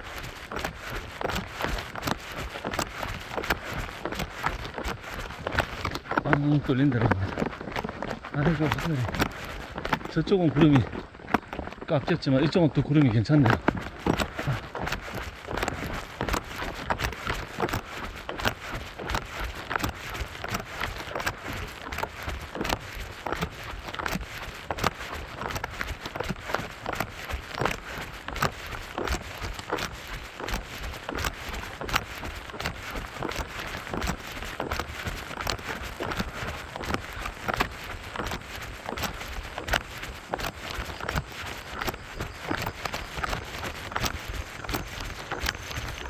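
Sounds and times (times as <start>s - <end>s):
running footsteps crunching on trail: 0.0s - 46.0s.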